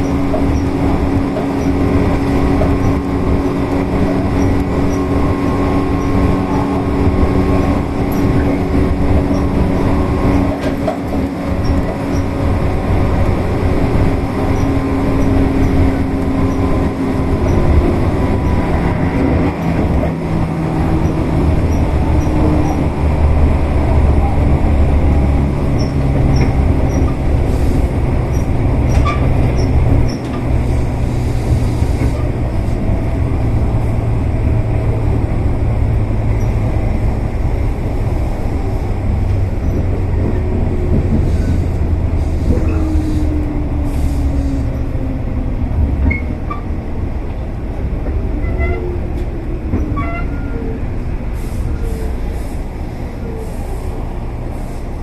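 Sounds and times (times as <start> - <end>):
electric train rumbling: 0.0 - 55.0
rail clicks: 0.0 - 55.0.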